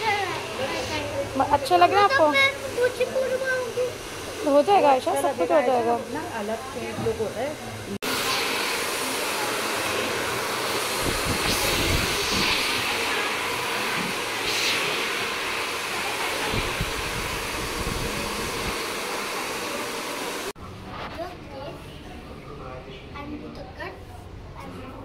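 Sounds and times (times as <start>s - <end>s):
hair dryer running: 0.0s - 20.6s.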